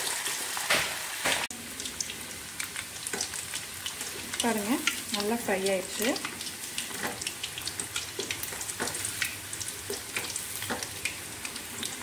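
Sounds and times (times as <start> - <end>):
oil sizzling with crackling pops: 0.0 - 12.0.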